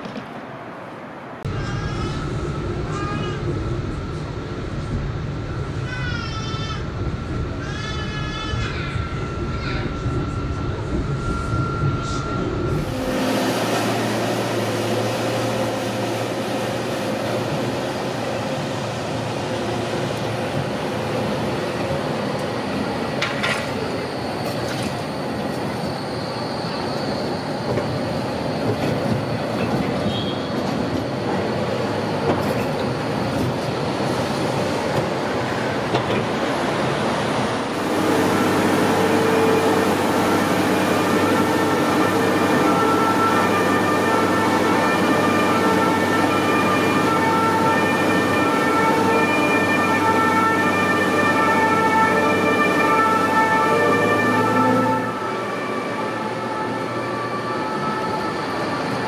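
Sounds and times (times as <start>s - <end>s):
tram wheels rumbling on rail: 0.0s - 59.0s
tram wheel squeal: 1.5s - 59.0s.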